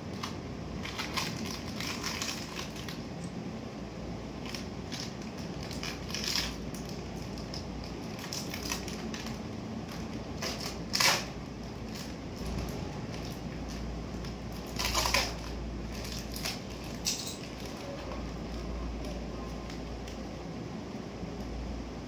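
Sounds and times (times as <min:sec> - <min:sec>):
crunching handling noises: 0:00.0 - 0:20.5.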